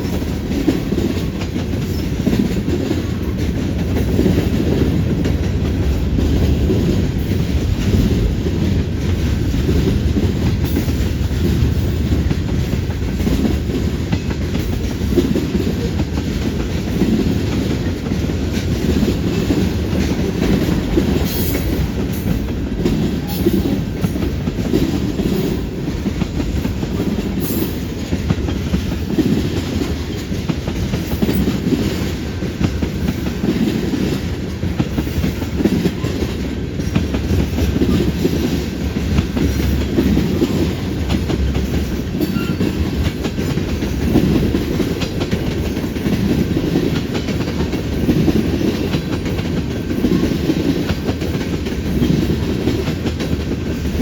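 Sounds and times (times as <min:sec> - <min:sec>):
low train rumble: 0:00.0 - 0:54.0
train wheels clacking over rail joints: 0:00.0 - 0:54.0.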